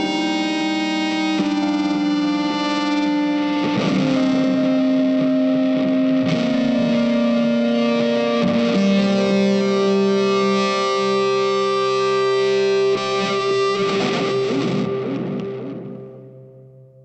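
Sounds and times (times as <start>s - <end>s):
effects-laden guitar notes: 0.0s - 17.0s.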